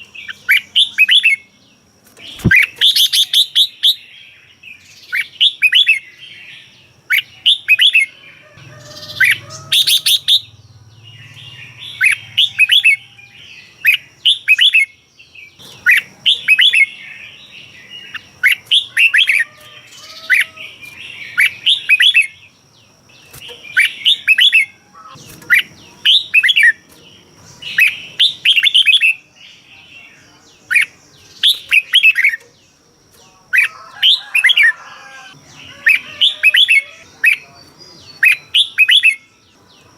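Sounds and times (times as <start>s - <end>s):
bird singing whistled notes: 0.0s - 1.6s, 2.2s - 22.6s, 23.5s - 32.6s, 35.6s - 39.9s.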